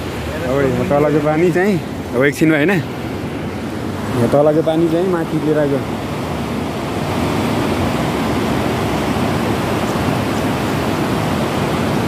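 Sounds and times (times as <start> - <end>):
river rushing through gorge: 0.0 - 12.0.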